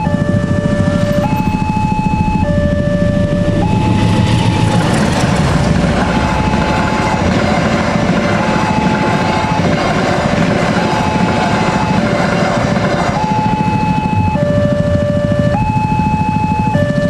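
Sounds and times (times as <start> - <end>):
passing train rumble: 0.0 - 14.4
level crossing warning alarm: 0.0 - 17.0.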